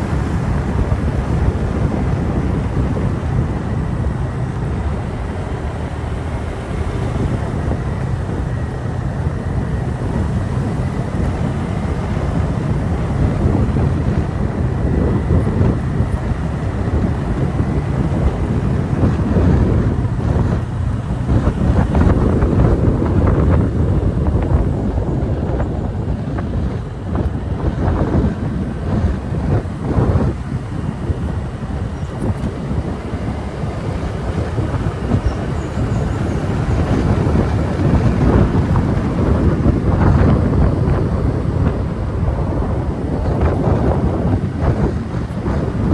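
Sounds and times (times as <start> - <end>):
motorbike engine running: 0.0 - 45.9
wind buffeting microphone: 0.0 - 45.9.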